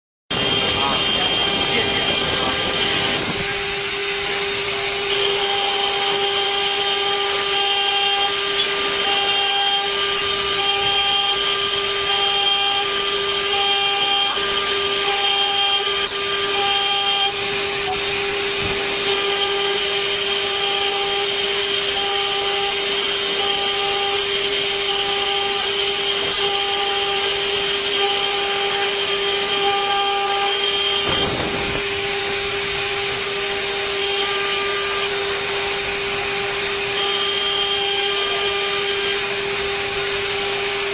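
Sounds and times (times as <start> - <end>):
cutter milling metal: 0.3 - 40.9
machine spindle whine: 0.3 - 40.9.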